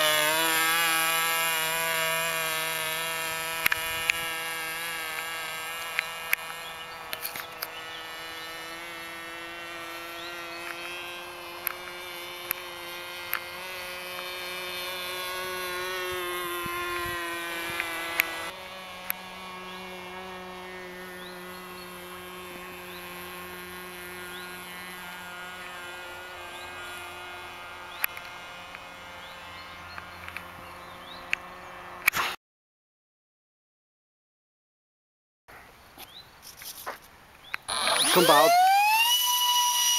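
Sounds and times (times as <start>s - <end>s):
model airplane motor whining: 0.0s - 32.1s, 37.7s - 39.9s.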